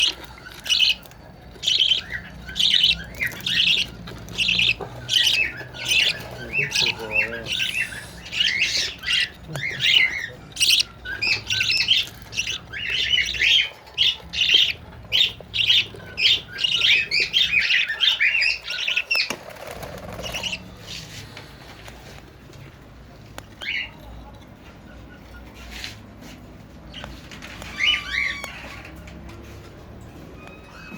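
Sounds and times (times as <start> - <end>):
birds chirping and squawking: 0.0 - 30.9.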